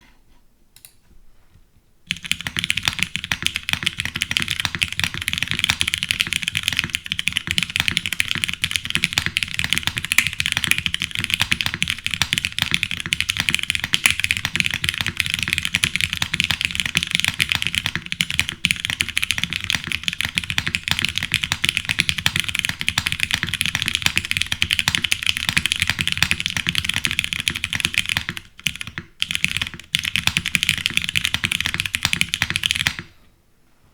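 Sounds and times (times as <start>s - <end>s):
fast typing on mechanical keyboard: 2.1s - 33.1s.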